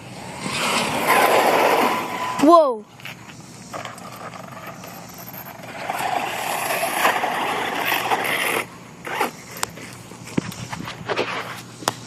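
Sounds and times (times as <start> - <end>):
rc car running over dirt: 0.0 - 9.8.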